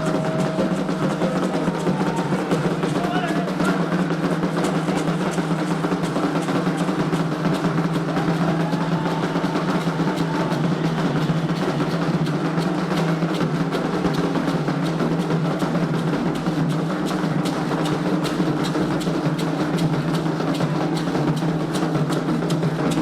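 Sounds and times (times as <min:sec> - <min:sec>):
fast hand drumming: 0:00.0 - 0:23.0.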